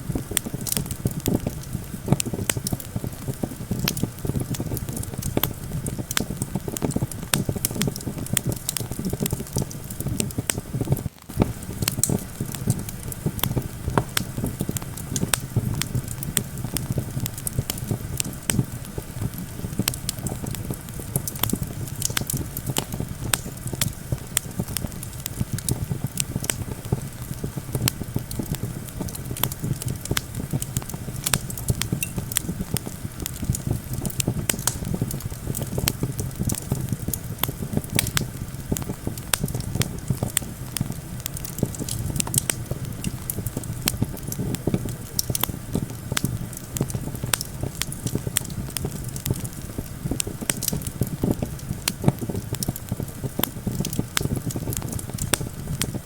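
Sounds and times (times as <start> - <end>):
campfire crackling: 0.0 - 56.0
low rumble of wind: 0.0 - 56.0.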